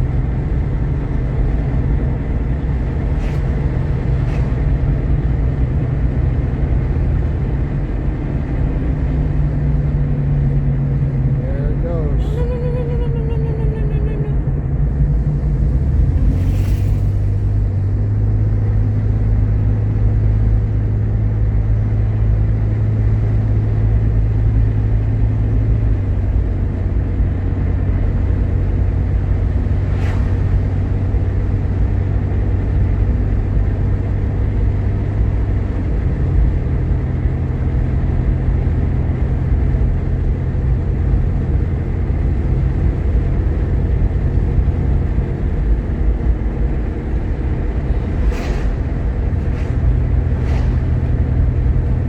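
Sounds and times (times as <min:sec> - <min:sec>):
car engine running: 0:00.0 - 0:52.0
road noise: 0:00.0 - 0:52.0.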